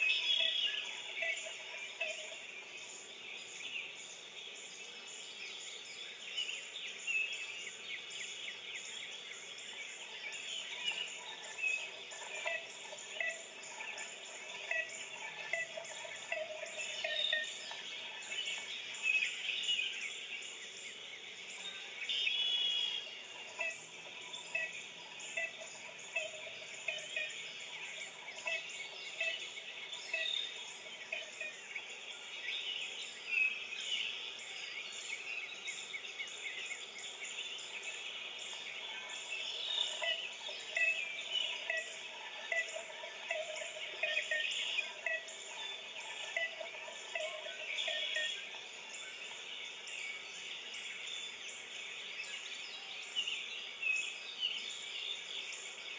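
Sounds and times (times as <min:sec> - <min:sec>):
birds calling and chirping: 0:00.0 - 0:55.9
high insect chorus: 0:00.0 - 0:55.9.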